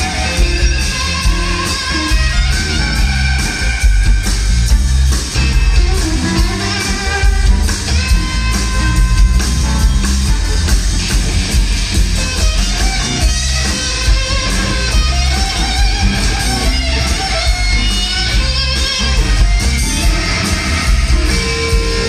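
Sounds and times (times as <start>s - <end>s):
bending lead guitar line: 0.0s - 22.0s
blues rock band playing: 0.0s - 22.0s
steady drum beat: 0.0s - 22.0s.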